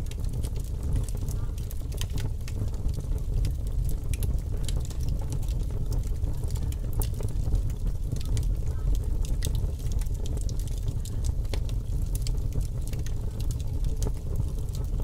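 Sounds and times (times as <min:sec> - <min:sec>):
fire crackling: 0:00.0 - 0:15.0
low background rumble: 0:00.0 - 0:15.0.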